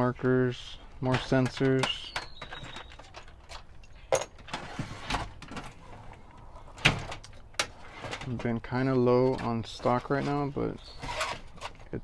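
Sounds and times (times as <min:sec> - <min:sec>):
parts and bins clicking and knocking: 0:00.9 - 0:12.0.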